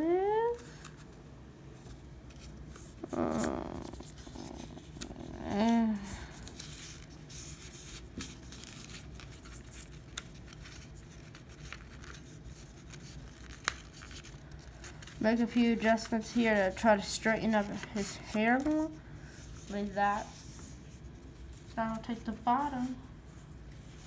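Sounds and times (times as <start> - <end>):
paper rustling and crinkling: 0.5 - 1.2, 1.8 - 24.0.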